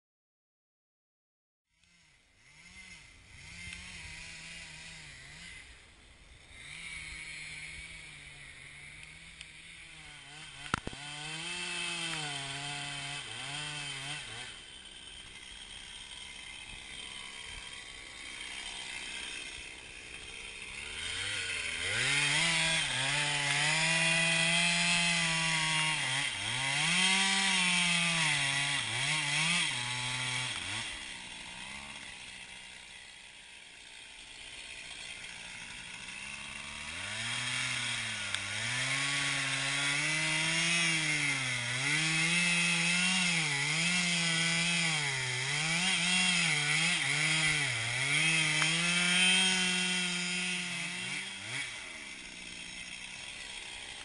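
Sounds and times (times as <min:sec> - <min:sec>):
chainsaw cutting wood: 0:01.7 - 0:54.0.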